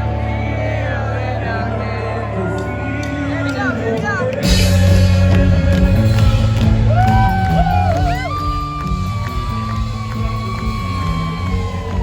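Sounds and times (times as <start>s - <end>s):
loud music with bass line: 0.0s - 12.0s.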